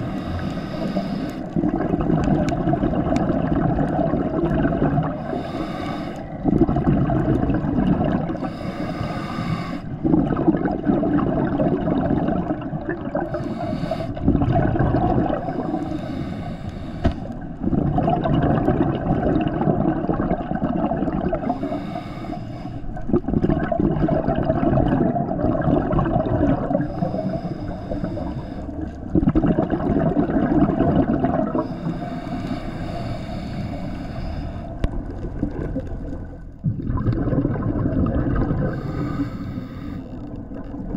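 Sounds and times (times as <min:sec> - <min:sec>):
underwater regulator bubbles gurgling: 0:00.0 - 0:40.9.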